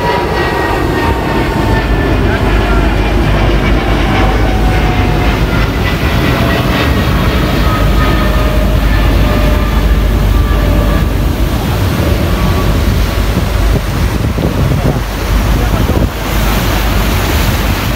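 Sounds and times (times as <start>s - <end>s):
boat engine running: 0.0s - 17.9s
water rushing past hull: 0.0s - 17.9s
wind buffeting microphone: 0.0s - 17.9s.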